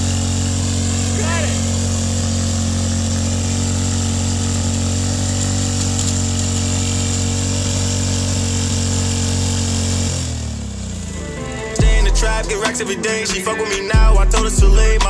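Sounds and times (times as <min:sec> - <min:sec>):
small engine running at full throttle: 0:00.0 - 0:12.7.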